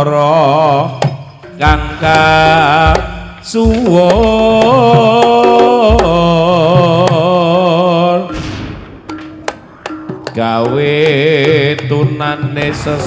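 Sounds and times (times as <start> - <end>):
sharp drum strokes: 1.0 - 7.4, 8.3 - 13.0.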